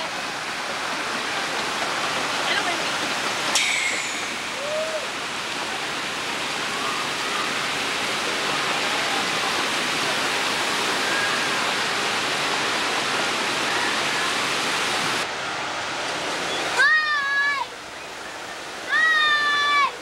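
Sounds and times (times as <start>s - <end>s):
water rushing in channel: 0.0s - 20.0s.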